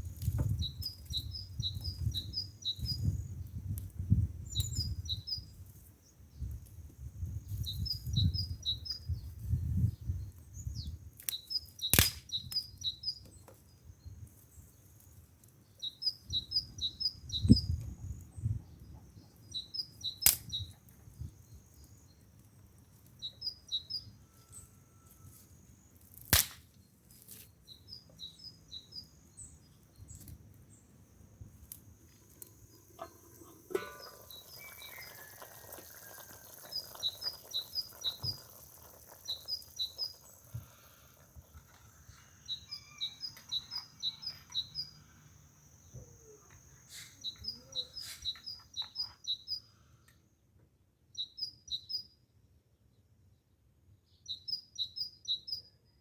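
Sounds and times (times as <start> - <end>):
small bird chirping: 0.4 - 3.6, 4.4 - 5.6, 7.2 - 22.3, 23.0 - 26.0, 26.8 - 31.2, 32.1 - 50.2, 51.1 - 52.2, 54.1 - 56.0.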